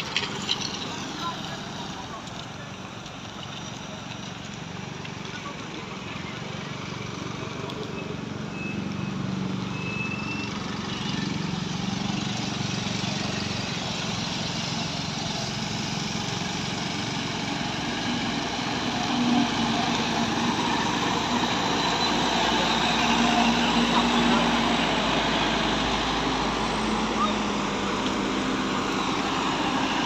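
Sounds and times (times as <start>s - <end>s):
traffic engines passing: 0.0s - 30.0s
truck engine passing close: 5.4s - 30.0s.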